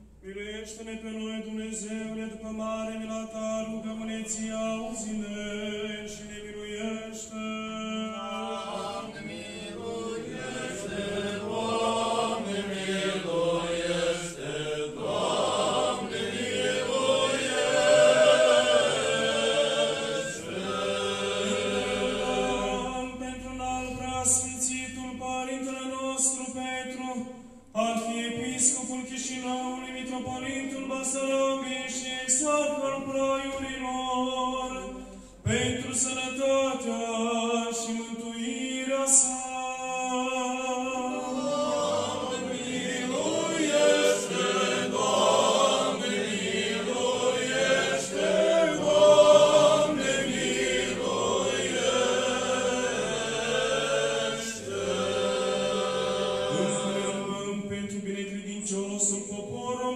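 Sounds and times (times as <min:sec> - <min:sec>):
unaccompanied liturgical chant: 0:00.0 - 0:59.9.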